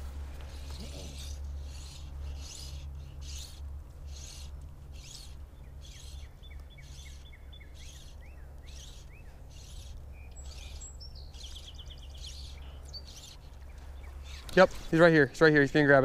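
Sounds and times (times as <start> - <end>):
songbirds singing: 0.0 - 16.0
steady low rumble: 0.0 - 16.0.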